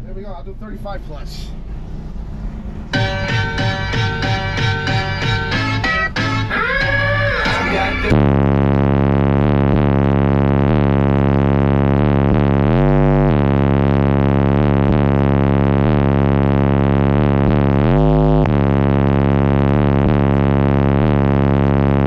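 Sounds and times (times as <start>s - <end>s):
deep bass tone from subwoofers: 0.0s - 22.0s.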